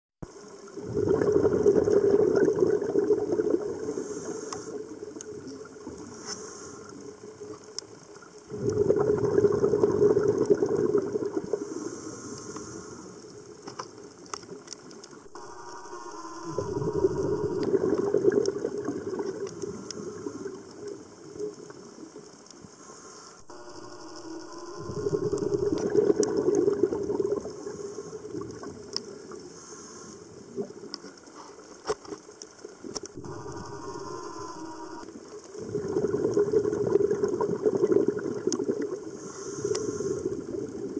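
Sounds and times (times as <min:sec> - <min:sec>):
underwater bubbles gurgling: 0:00.2 - 0:40.9.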